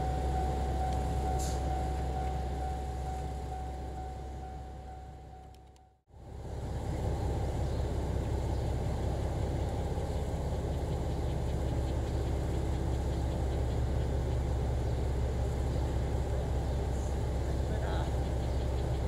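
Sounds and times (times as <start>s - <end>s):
diesel railcar idling: 0.0s - 19.0s.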